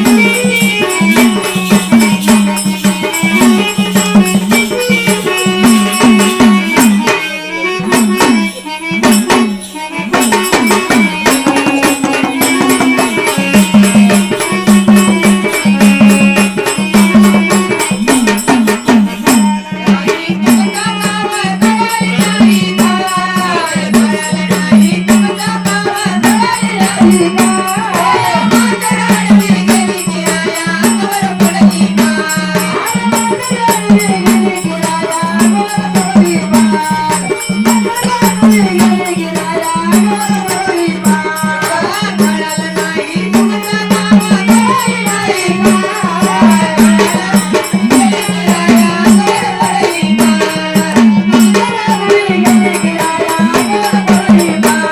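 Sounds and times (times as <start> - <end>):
fast percussion beat: 0.0 - 54.9.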